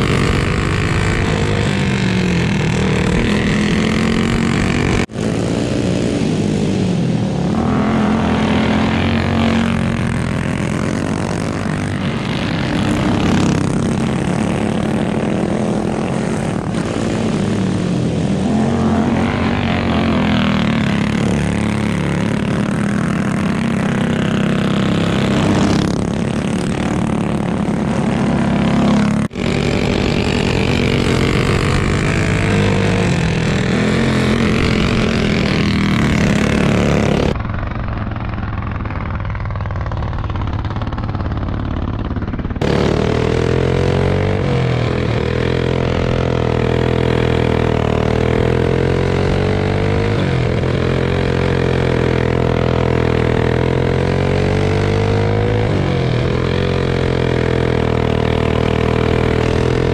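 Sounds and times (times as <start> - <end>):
go-kart engines racing: 0.0 - 59.9
kart engine heard on board: 0.0 - 59.9.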